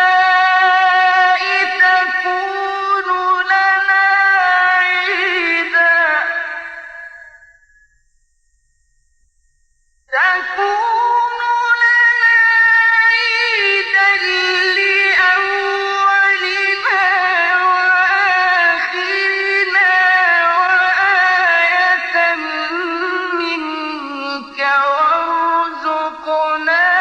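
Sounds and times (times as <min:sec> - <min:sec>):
man reciting melodically: 0:00.0 - 0:07.4, 0:10.1 - 0:27.0.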